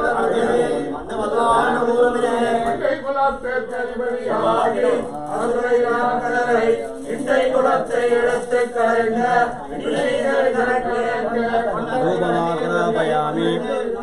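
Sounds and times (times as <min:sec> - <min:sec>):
man chanting mantras: 0:00.0 - 0:14.0.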